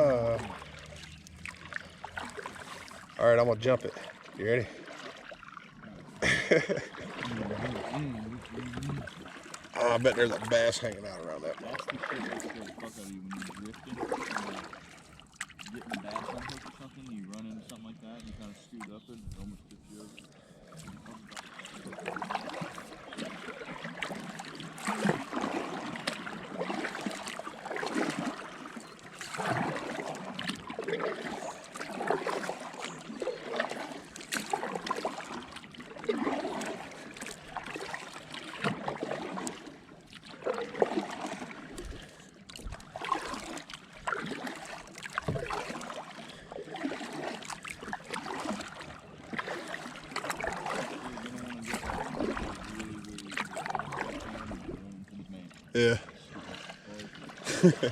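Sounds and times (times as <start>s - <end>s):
paddle strokes splashing in water: 0.0s - 57.9s.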